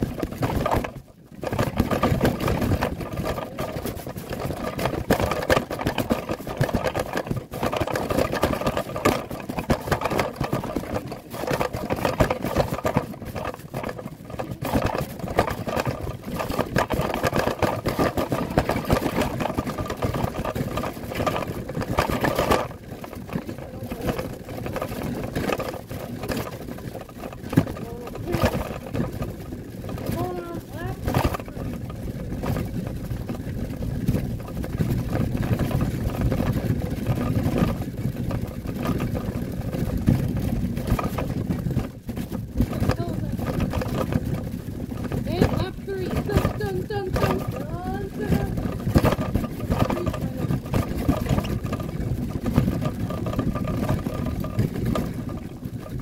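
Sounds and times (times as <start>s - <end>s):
wagon wheels rumbling and rattling: 0.0s - 56.0s.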